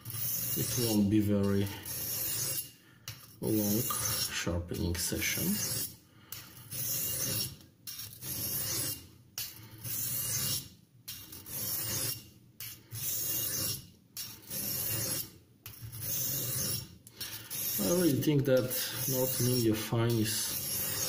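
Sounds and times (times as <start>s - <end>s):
knife scraping on sharpening stone: 0.0s - 4.4s, 5.0s - 21.0s.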